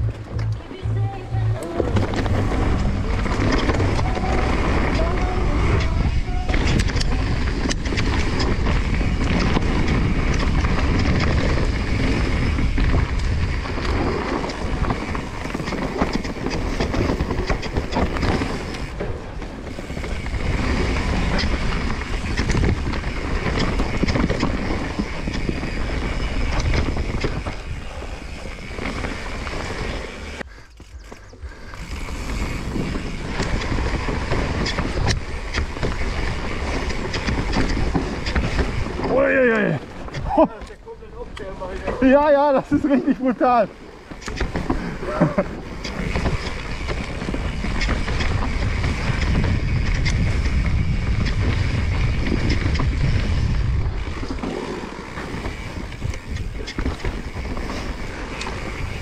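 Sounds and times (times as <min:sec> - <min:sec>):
wind buffeting microphone: 0:00.0 - 0:43.2, 0:43.9 - 0:59.0
bike tyres rumbling: 0:00.0 - 0:59.0
bike frame and chain rattling: 0:01.6 - 0:59.0.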